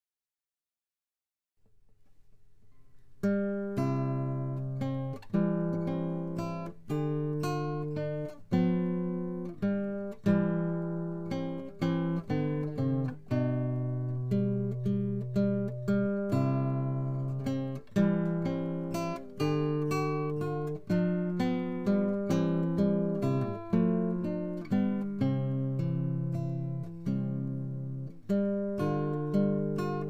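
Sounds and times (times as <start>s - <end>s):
acoustic guitar chords strummed: 3.2s - 30.0s.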